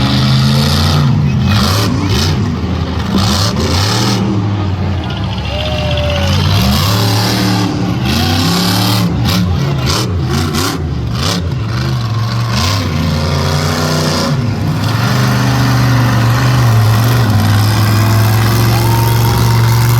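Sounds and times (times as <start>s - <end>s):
monster truck engine revving: 0.0s - 19.9s.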